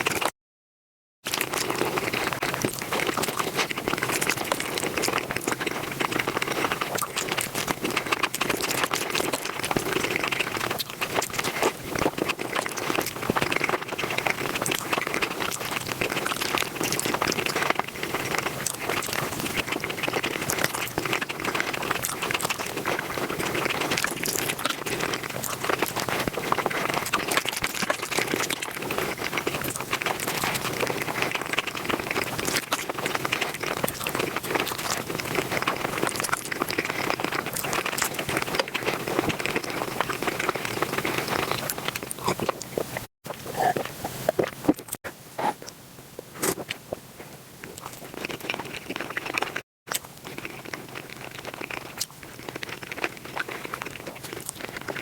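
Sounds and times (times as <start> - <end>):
sped-up chewing crackle: 1.3 - 55.0.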